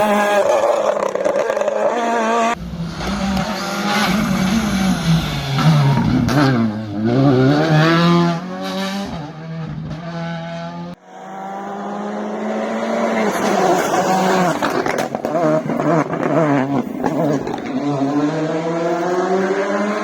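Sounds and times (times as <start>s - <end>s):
car engine approaching: 0.0s - 20.0s
rally car engines revving: 0.0s - 20.0s.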